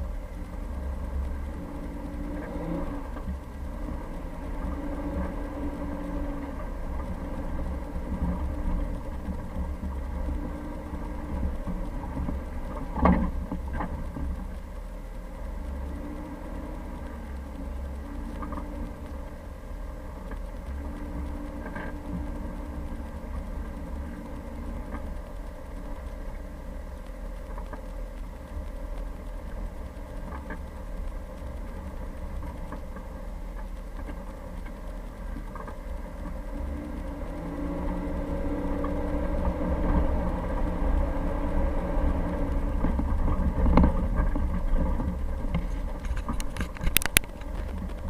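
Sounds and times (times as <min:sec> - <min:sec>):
car engine running low revs: 0:00.0 - 0:48.0.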